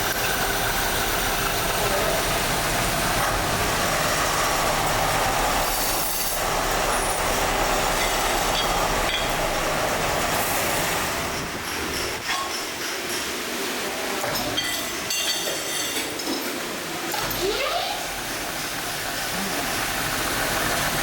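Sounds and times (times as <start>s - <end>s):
factory machinery running: 0.0s - 21.0s.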